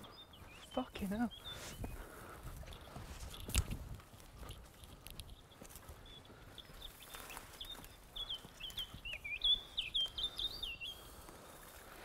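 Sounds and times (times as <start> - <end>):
recorded songbird song: 0.0 - 3.8, 4.4 - 12.0.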